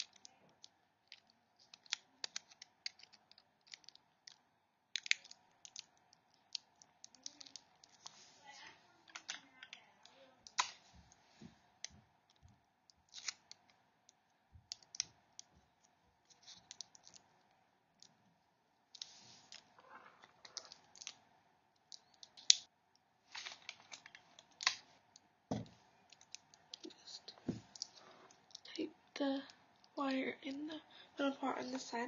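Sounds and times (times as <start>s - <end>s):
hands handling cable and tape: 0.0s - 18.2s, 18.9s - 28.7s.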